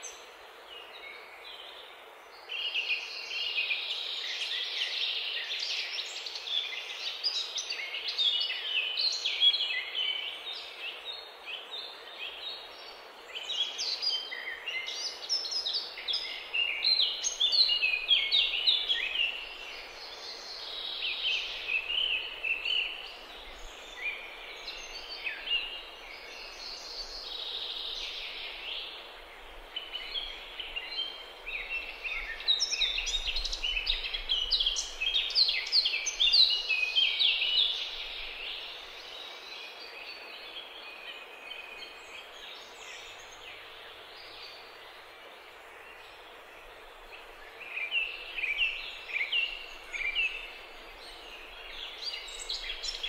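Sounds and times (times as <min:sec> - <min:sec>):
songbirds chirping and trilling: 0:00.0 - 0:53.0.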